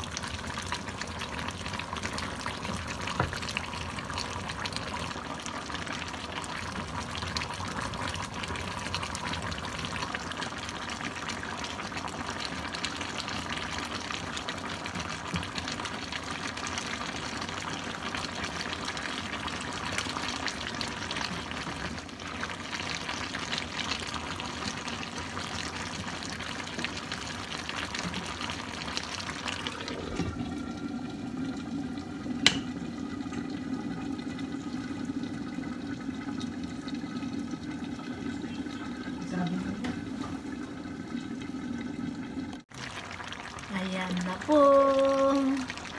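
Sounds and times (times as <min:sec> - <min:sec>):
broth bubbling in a wok: 0:00.0 - 0:45.9.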